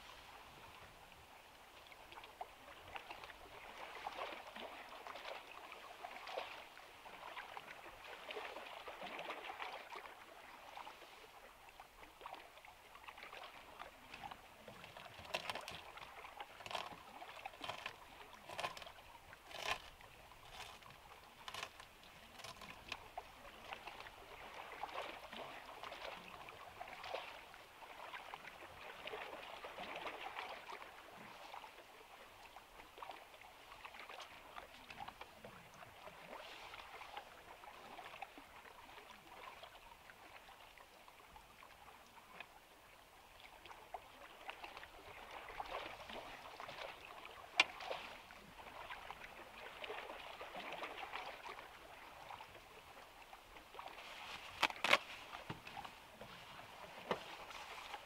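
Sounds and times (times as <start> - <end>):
water lapping: 0.0 - 58.0.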